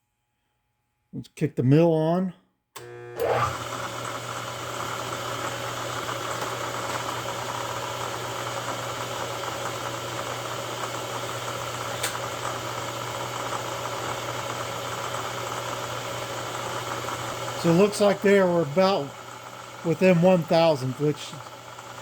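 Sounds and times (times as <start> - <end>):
milling machine motor humming: 2.8 - 22.0.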